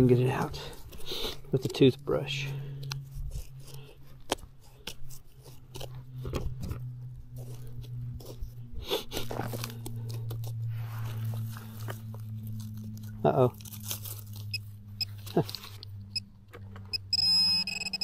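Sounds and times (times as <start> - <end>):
soil crunching and scraping: 0.0 - 16.9
steady low hum: 0.0 - 18.0.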